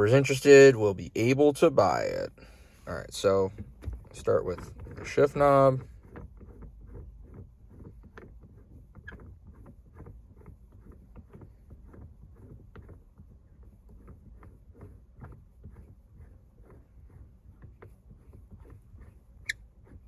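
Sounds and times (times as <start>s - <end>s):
shift knob rubbing and clicking: 0.0s - 20.0s.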